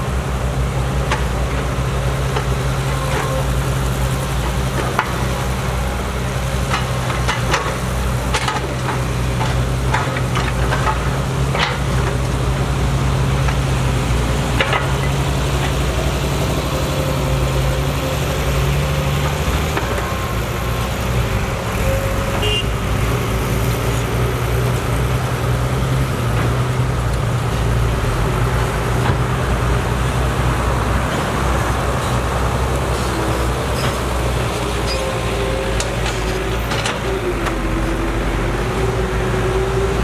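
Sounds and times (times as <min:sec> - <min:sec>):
diesel engines running: 0:00.0 - 0:40.0.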